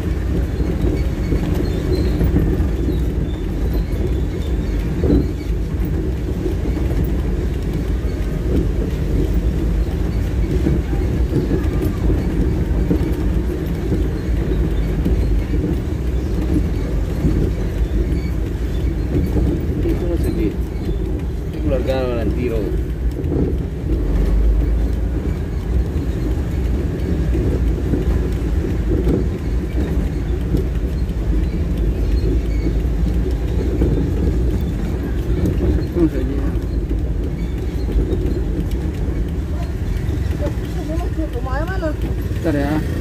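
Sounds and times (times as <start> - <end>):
vehicle engine and road noise: 0.0 - 43.0.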